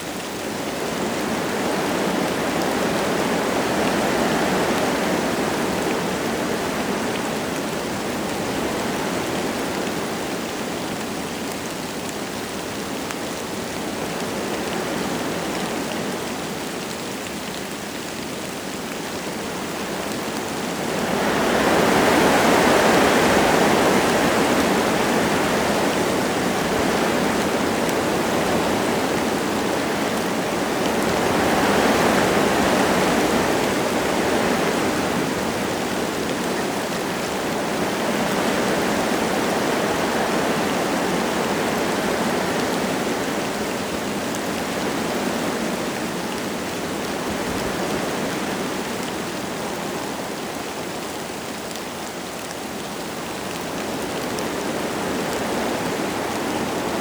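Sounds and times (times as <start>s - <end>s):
light rain: 0.0s - 57.0s
wind gusting through trees: 0.0s - 57.0s.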